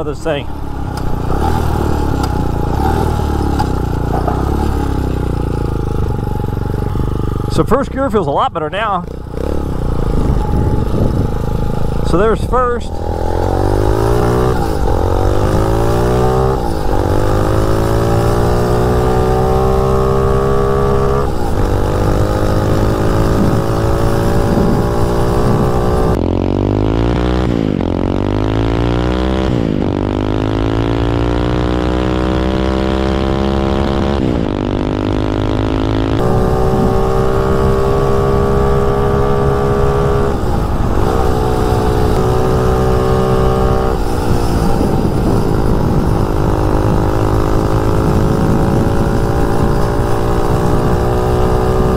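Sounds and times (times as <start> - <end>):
dirt bike engine accelerating: 0.0 - 51.9.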